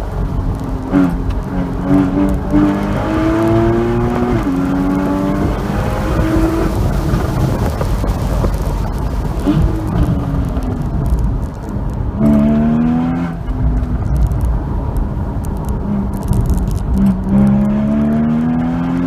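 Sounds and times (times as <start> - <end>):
car engine revving: 0.0 - 19.0
wind and road noise: 0.0 - 19.0.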